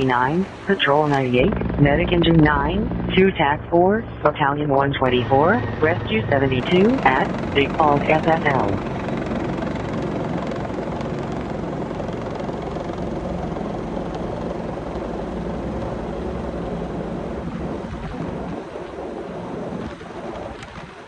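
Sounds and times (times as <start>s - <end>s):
helicopter rotors and engine: 0.0s - 21.0s.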